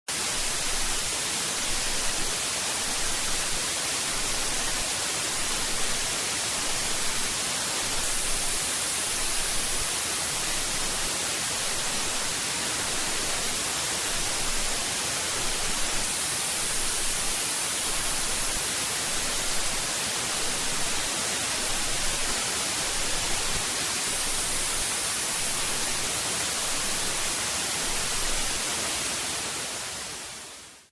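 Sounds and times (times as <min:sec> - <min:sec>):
white noise hiss: 0:00.1 - 0:30.9.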